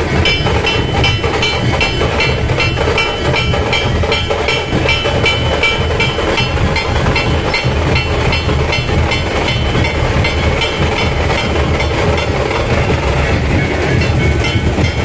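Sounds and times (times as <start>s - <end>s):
deep drums: 0.0s - 15.0s
hand cymbal clashing: 0.1s - 15.0s.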